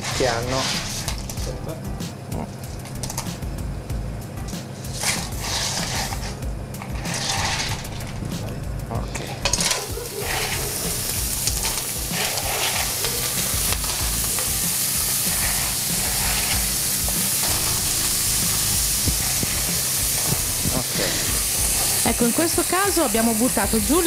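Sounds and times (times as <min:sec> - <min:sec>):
clams sizzling in hot oil: 0:00.0 - 0:01.8, 0:04.6 - 0:08.2, 0:09.2 - 0:24.0.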